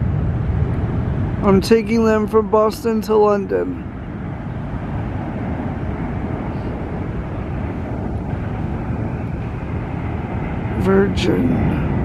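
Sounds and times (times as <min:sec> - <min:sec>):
jet engines: 0:00.0 - 0:12.0.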